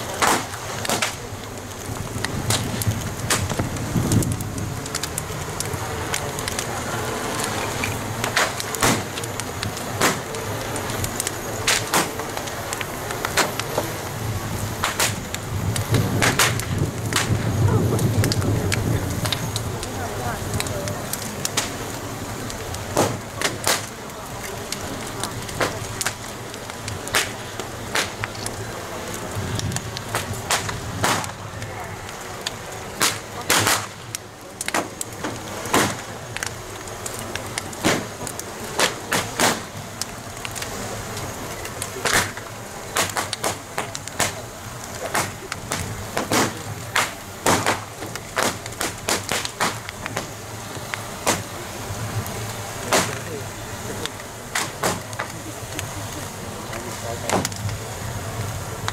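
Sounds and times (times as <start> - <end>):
bonfire crackling and popping: 0.0 - 58.9
steady rushing fire noise: 0.0 - 58.9.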